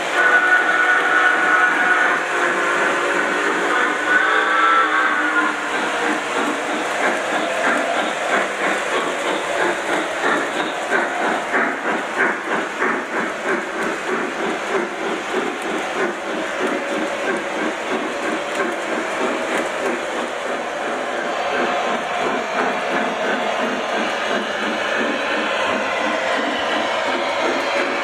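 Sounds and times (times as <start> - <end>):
model train wheels clicking: 0.0 - 28.0
rhythmic steam chuff: 0.0 - 28.0.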